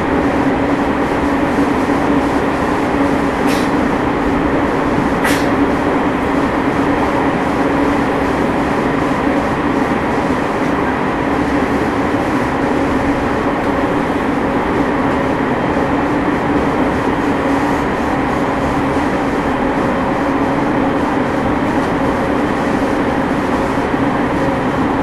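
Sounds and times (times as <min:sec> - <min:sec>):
air conditioning running: 0:00.0 - 0:25.0
train rolling and motor noise: 0:00.0 - 0:25.0.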